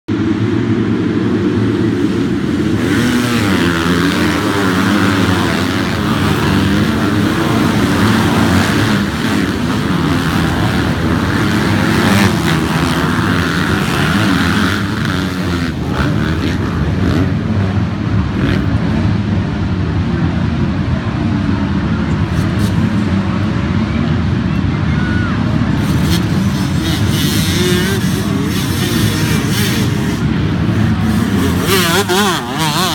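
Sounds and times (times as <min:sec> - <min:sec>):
motocross bikes racing past: 0:00.1 - 0:32.9.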